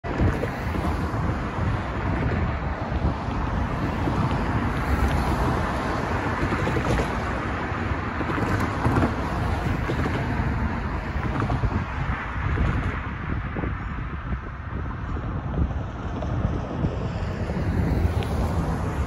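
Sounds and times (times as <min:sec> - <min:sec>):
cars passing on road: 0:00.0 - 0:19.0
wind buffeting microphone: 0:00.0 - 0:19.0.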